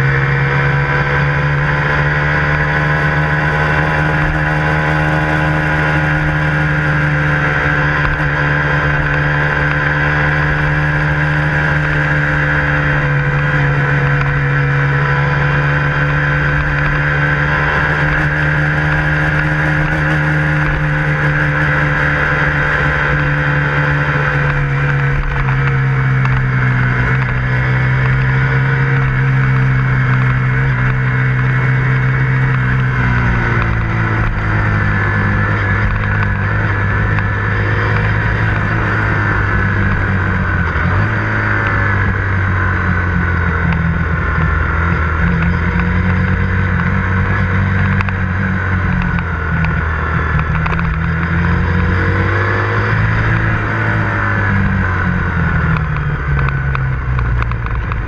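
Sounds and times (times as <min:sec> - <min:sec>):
motorcycle engine while riding: 0:00.0 - 0:58.0.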